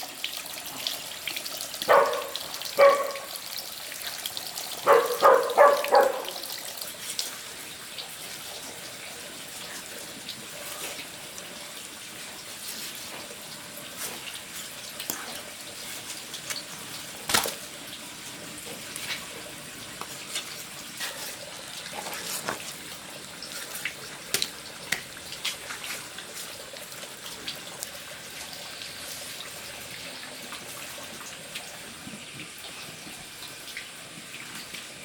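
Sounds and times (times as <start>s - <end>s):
water running and splashing: 0.0s - 35.0s.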